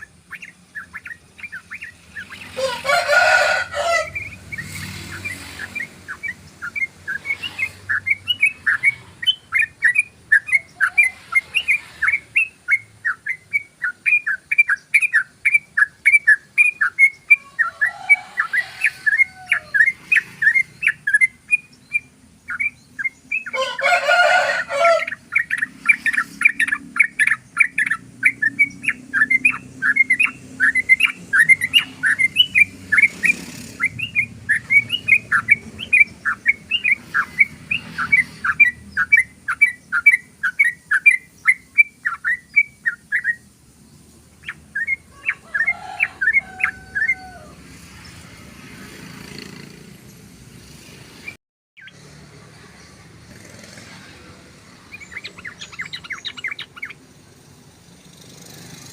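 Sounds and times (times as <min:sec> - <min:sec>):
bird singing chattering notes: 0:00.0 - 0:23.8, 0:24.7 - 0:47.4, 0:51.8 - 0:58.9.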